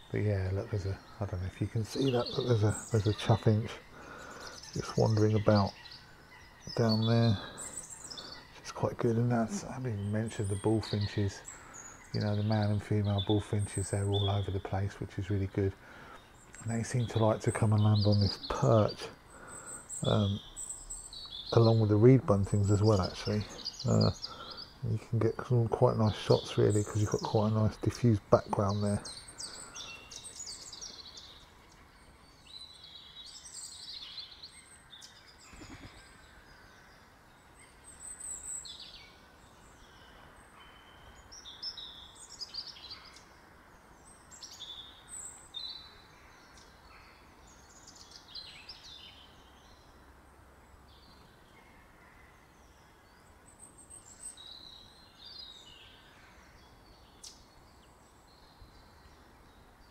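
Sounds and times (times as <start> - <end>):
faint background hiss: 0.0 - 59.9
songbirds chirping: 0.0 - 59.9.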